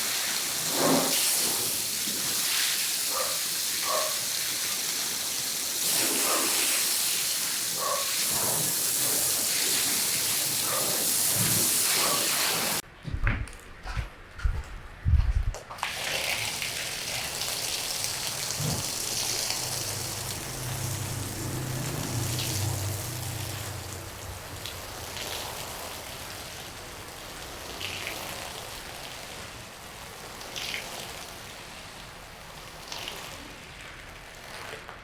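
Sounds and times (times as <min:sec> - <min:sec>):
water spraying onto wet carpet: 0:00.0 - 0:12.8, 0:15.7 - 0:35.0.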